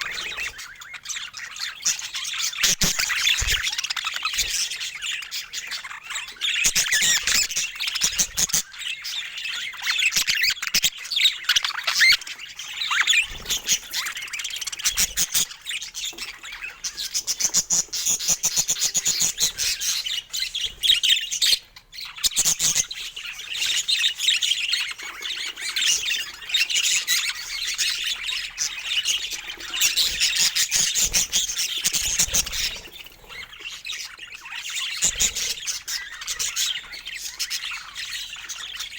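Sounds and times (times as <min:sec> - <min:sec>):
budgerigars chattering and warbling: 0:00.0 - 0:38.9.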